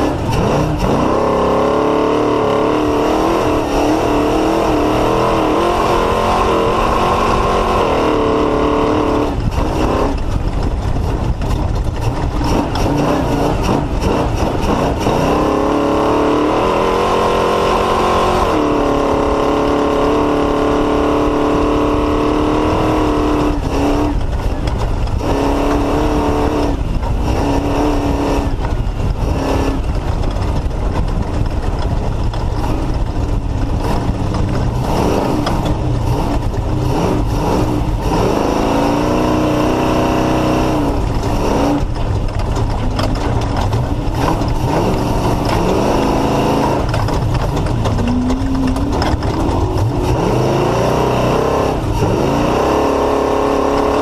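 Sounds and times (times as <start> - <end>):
race car engine running hard: 0.0 - 54.0.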